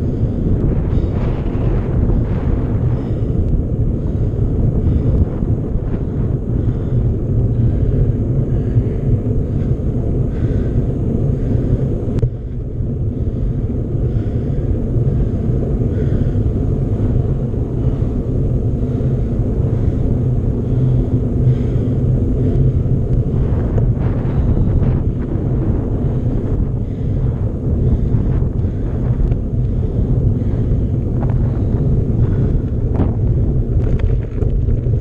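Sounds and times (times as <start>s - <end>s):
mountain bike rumble: 0.0s - 35.0s
wind buffeting microphone: 0.0s - 35.0s.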